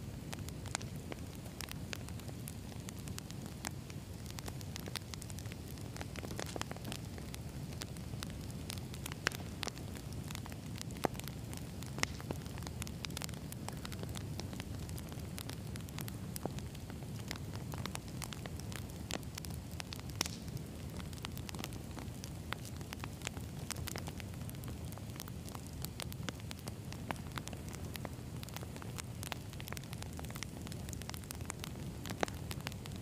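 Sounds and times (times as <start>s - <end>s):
firewood crackling and popping: 0.0s - 33.0s
campfire flame rushing: 0.1s - 33.0s.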